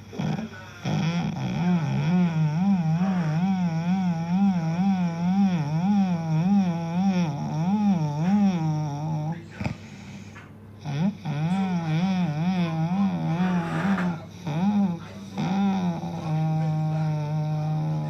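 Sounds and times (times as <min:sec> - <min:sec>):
person snoring with droning tone: 0:00.0 - 0:18.0.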